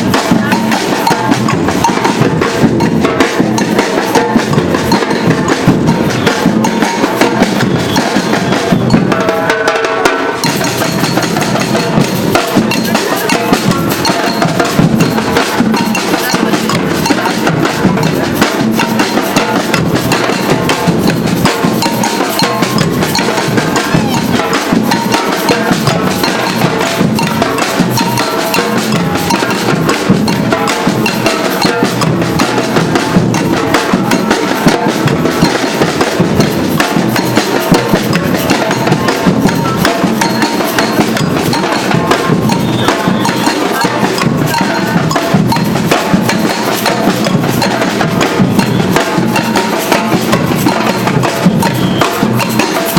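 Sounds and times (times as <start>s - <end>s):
street drum band playing: 0.0s - 52.9s.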